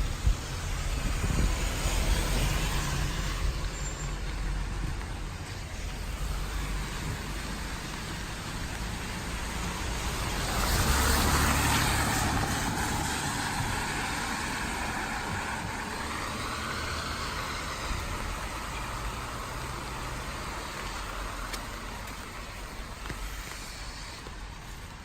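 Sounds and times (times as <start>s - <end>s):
rain hissing: 0.0s - 25.0s
vehicle passing on wet street: 0.0s - 25.0s.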